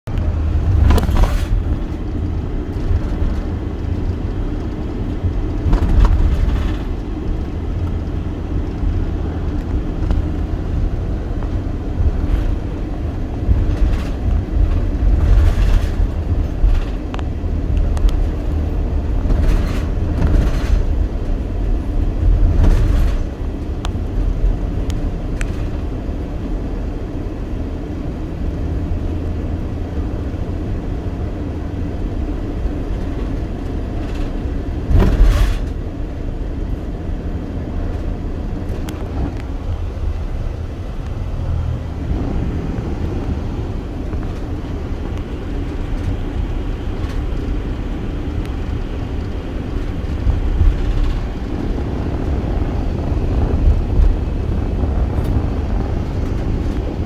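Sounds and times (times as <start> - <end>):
low vehicle rumble: 0.0 - 57.0
traffic whooshes: 0.0 - 57.0.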